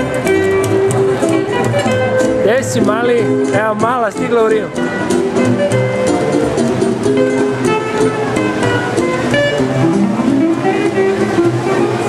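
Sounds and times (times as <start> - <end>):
plucked guitar notes: 0.0 - 12.0.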